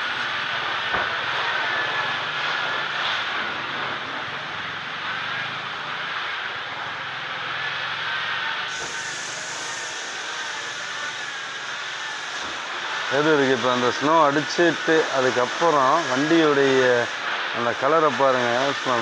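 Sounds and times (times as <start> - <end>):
pressure washer spraying water: 0.0 - 19.0.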